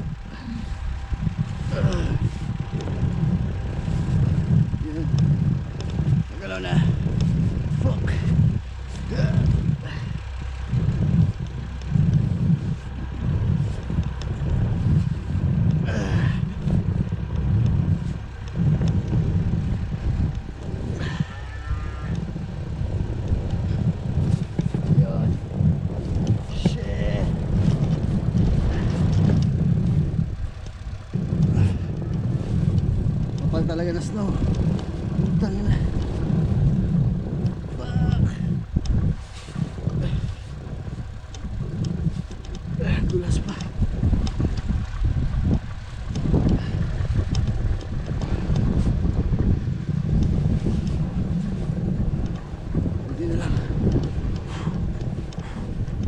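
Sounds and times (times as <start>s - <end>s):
tractor engine under load: 0.0s - 56.0s
wind buffeting microphone: 0.0s - 56.0s.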